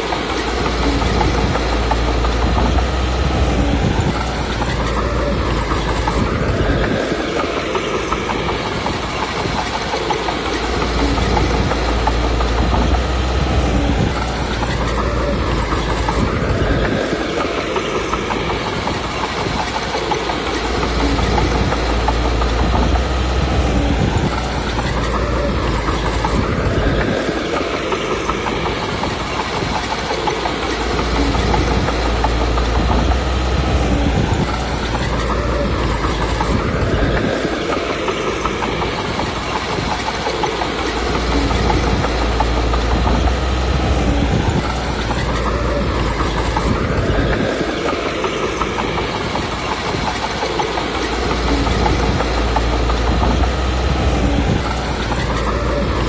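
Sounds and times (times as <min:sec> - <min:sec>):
bulldozer diesel engine running: 0:00.0 - 0:56.0
steel tracks clattering: 0:00.0 - 0:56.0.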